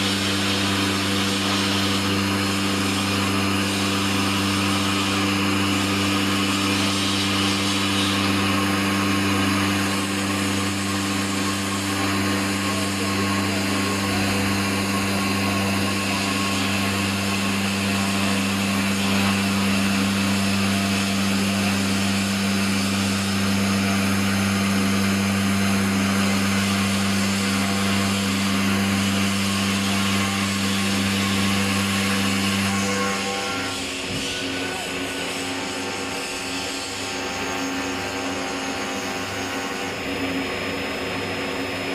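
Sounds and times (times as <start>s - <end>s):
router machine humming: 0.0s - 41.9s.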